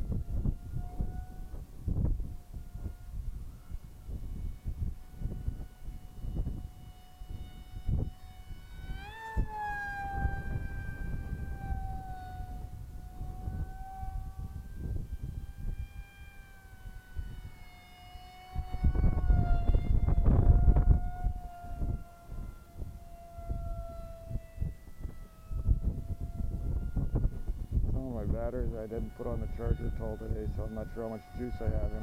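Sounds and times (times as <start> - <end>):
model jet electric motor whine: 0.0 - 32.0
wind buffeting microphone: 0.0 - 32.0.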